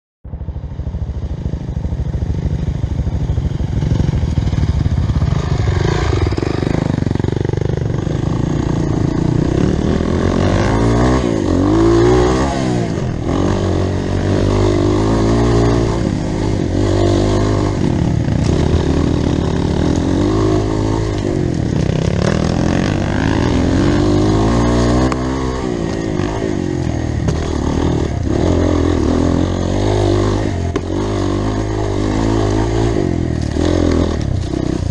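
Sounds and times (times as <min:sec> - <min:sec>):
off-road motorcycle engine revving: 0:00.4 - 0:34.9.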